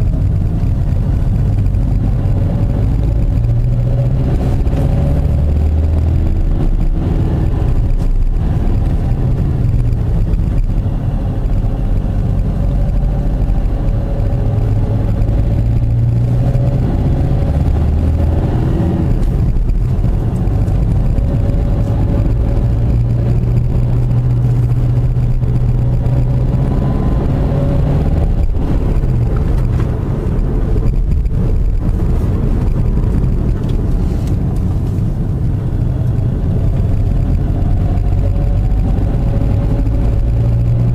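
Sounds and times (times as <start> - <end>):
car engine: 0.0 - 40.9.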